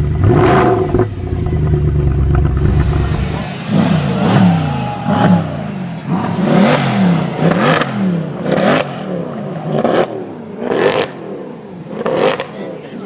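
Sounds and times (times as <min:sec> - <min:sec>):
car engine revving hard: 0:00.0 - 0:12.6.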